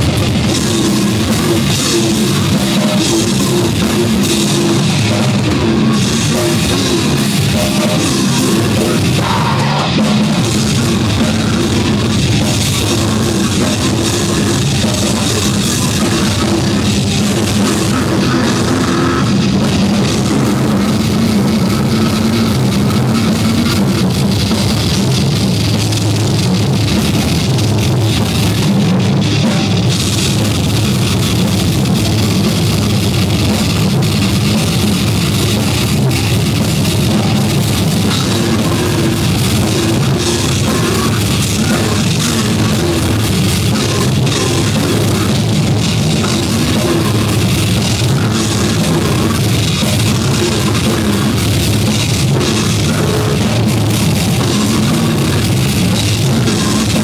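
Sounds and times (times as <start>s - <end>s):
amplified guitars: 0.0s - 57.0s
drum kit: 0.0s - 57.0s.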